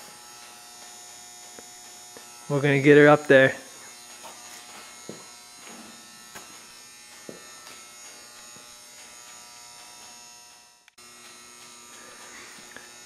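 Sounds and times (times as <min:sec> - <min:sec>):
electrical buzz: 0:00.0 - 0:13.0.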